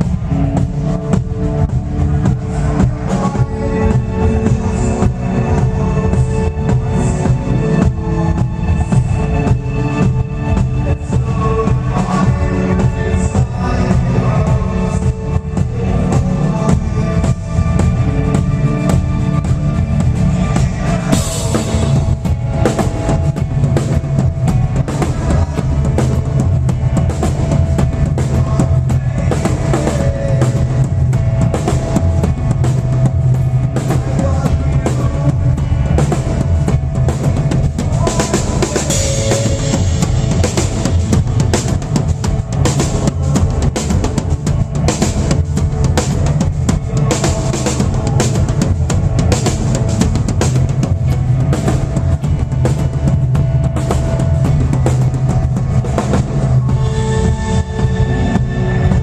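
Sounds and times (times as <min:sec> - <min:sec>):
drum kit playing: 0:00.0 - 0:59.0
sustained low notes: 0:00.0 - 0:59.0.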